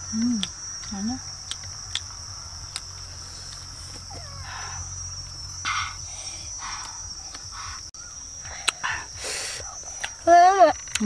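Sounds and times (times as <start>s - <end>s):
crickets droning: 0.0s - 11.0s.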